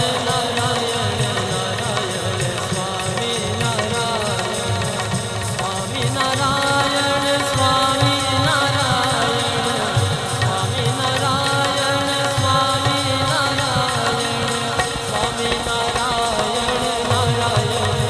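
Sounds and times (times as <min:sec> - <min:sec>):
wavering devotional melody: 0:00.0 - 0:18.0.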